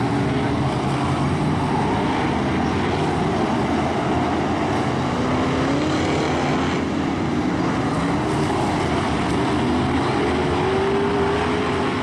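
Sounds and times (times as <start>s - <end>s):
stock car engines running hard: 0.0s - 12.0s.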